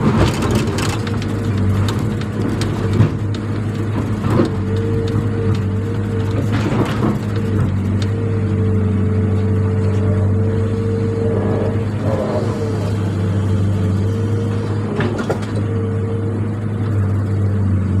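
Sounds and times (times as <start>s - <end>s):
motor running with low hum: 0.0s - 18.0s.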